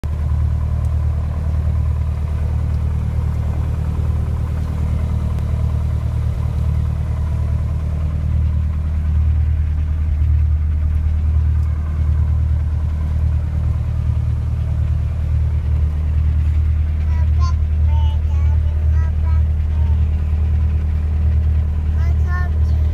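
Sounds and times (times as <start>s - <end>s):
helicopter engine and rotor: 0.2s - 22.9s.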